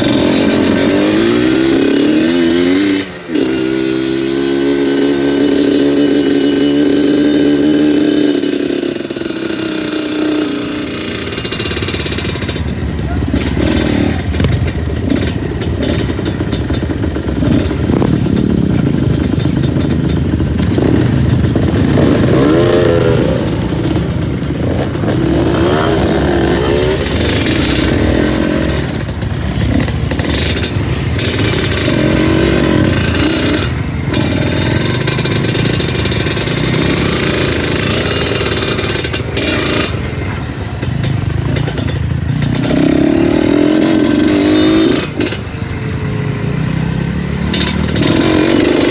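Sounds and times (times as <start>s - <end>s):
motorcycle engine revving: 0.0s - 48.9s
riding noise: 0.0s - 48.9s.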